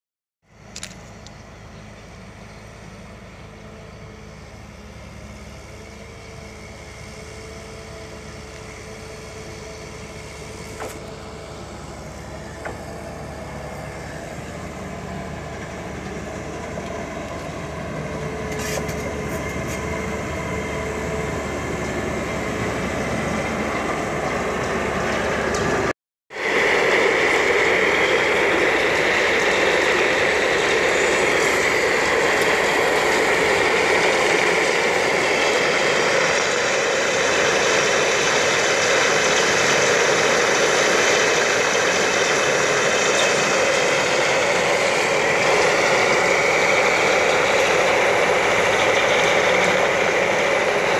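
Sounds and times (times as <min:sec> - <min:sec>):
diesel engine running: 0:00.4 - 0:50.9.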